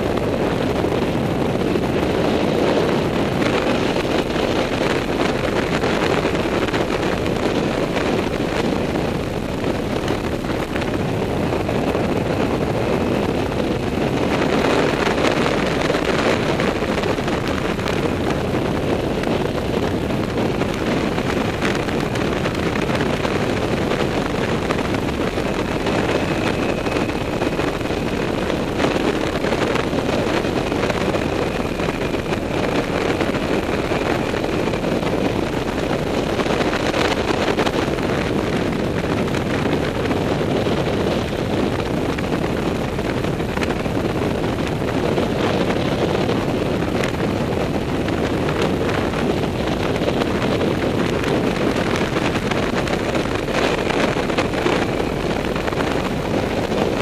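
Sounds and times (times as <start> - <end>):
quad bike engine and tyres: 0.0 - 57.0
wind buffeting microphone: 0.0 - 57.0.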